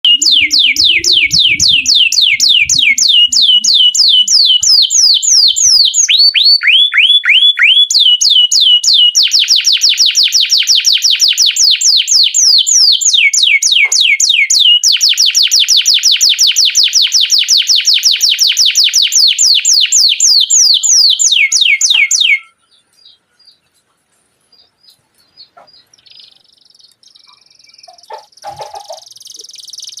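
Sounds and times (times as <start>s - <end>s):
canary trilling song: 0.0s - 30.0s
faint bird chirps: 0.0s - 30.0s.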